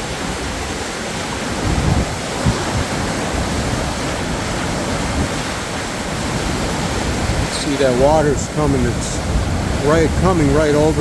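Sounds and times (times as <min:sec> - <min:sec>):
water crashing over a dam: 0:00.0 - 0:11.0
wind buffeting microphone: 0:00.0 - 0:11.0.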